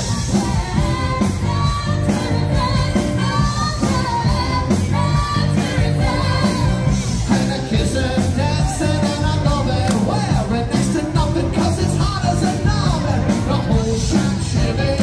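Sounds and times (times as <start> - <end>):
band playing a song: 0.0 - 15.0
lead singer singing: 0.0 - 15.0
steady drumbeat: 0.0 - 15.0.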